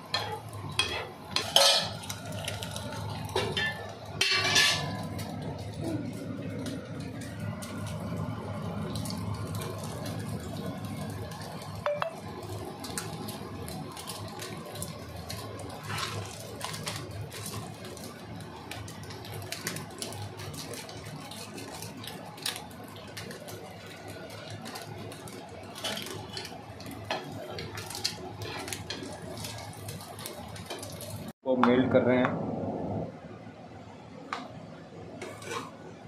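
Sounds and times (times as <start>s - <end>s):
crackles and clicks: 0.0s - 31.4s
food sizzling in a pan: 0.0s - 31.4s.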